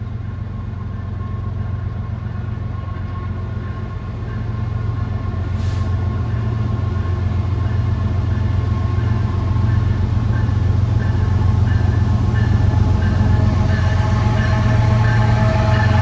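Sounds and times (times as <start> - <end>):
locomotive engine drone: 0.0 - 16.0.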